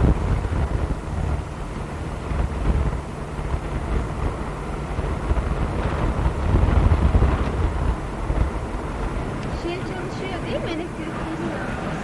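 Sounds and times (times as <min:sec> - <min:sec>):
road and wind noise in car: 0:00.0 - 0:12.0
wind buffeting microphone: 0:00.0 - 0:12.0.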